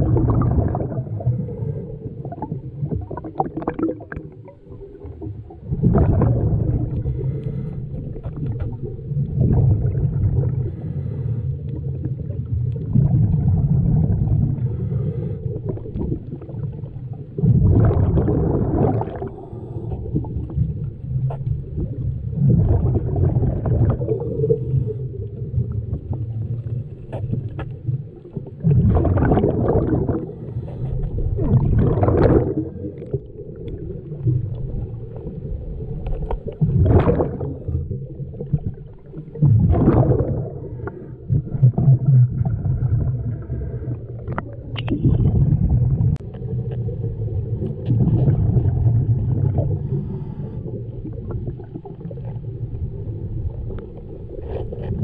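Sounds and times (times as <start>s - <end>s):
bubbles gurgling underwater: 0.0s - 55.0s
low underwater rumble: 0.0s - 55.0s.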